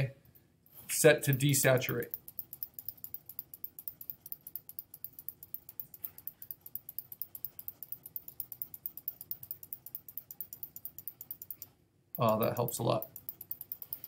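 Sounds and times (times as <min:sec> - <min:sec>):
low room hum: 0:00.0 - 0:14.0
rapid faint ticking: 0:01.1 - 0:14.0.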